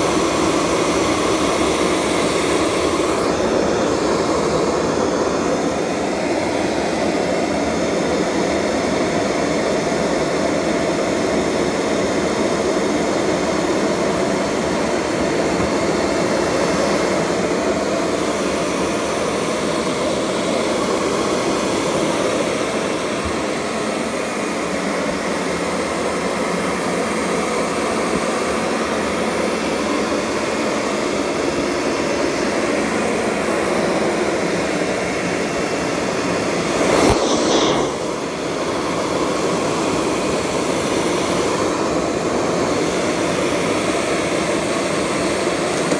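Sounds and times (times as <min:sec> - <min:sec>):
upright vacuum cleaner on carpet: 0:00.0 - 0:45.9.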